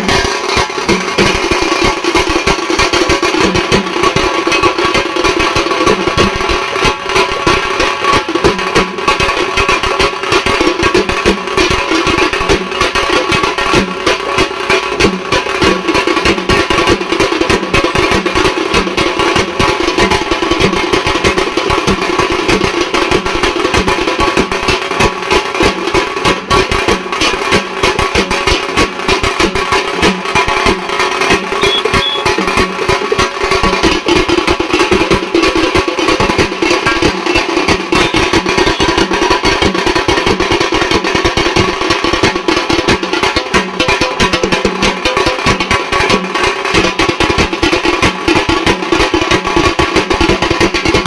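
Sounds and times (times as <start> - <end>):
fast metallic drumming: 0.0 - 51.0.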